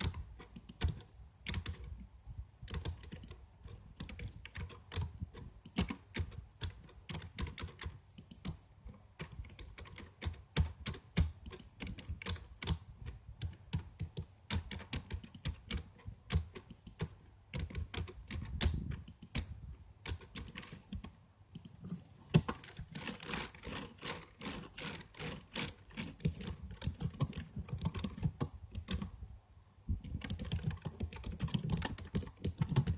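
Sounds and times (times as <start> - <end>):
keyboard typing clicks: 0.0 - 2.0, 2.7 - 29.1, 30.0 - 32.9.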